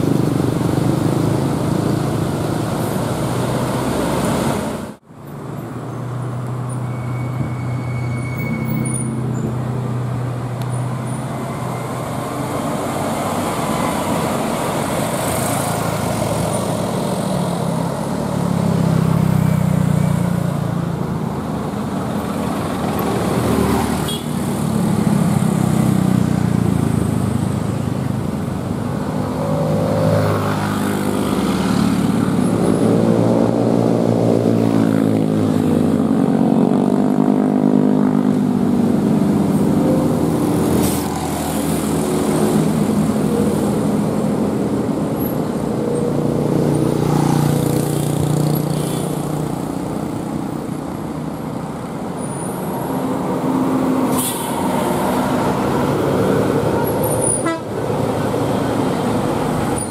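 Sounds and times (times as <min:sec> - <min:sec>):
bus passing: 0:00.0 - 0:59.9
cars passing: 0:00.0 - 0:59.9
motorcycles passing: 0:10.1 - 0:59.9.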